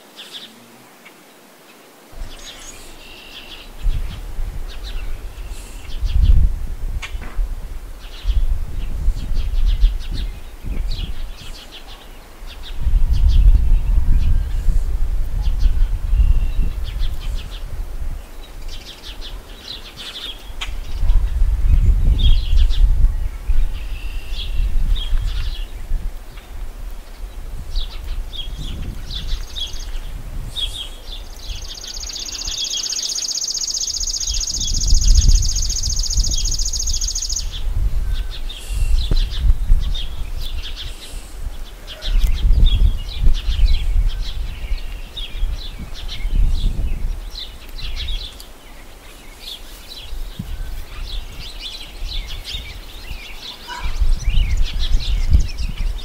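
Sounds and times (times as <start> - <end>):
small birds chirping: 0.0 - 7.2, 8.0 - 56.0
wind rumbling on microphone: 2.1 - 56.0.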